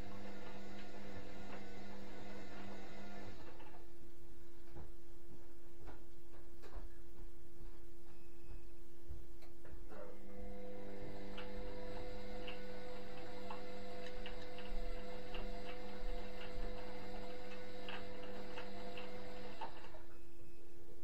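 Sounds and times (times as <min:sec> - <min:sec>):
washing machine motor hum: 0:00.0 - 0:05.9, 0:09.8 - 0:21.0.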